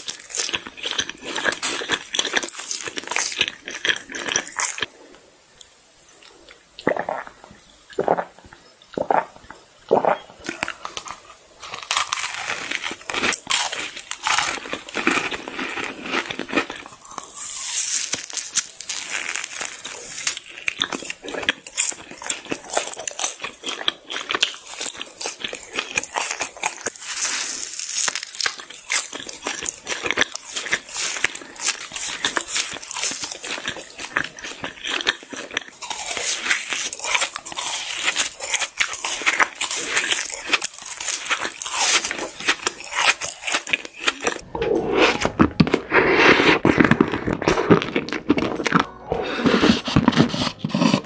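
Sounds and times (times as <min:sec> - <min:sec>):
crunching and chewing sweets: 0:00.0 - 0:44.4, 0:45.3 - 0:51.0.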